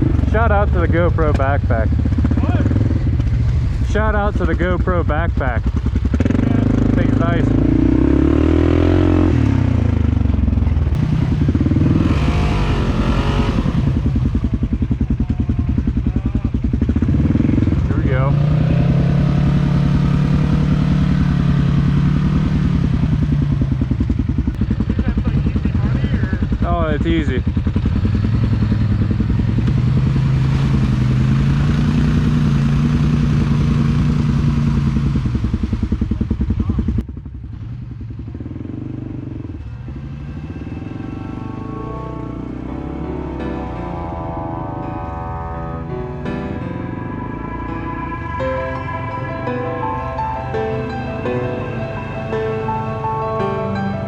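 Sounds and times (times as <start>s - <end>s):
atv engine running: 0.0s - 48.1s, 49.9s - 54.0s.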